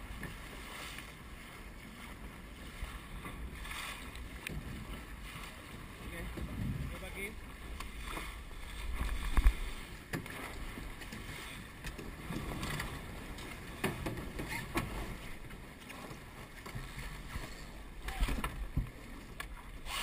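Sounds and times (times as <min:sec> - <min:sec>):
water rushing along a hull: 0:00.0 - 0:20.0.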